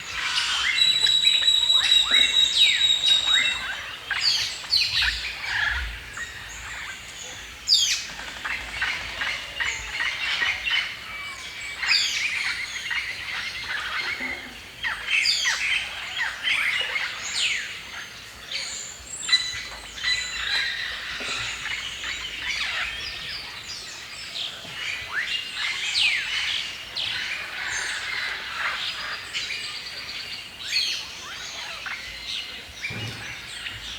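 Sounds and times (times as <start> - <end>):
songbirds chirping and singing: 0.0 - 33.9.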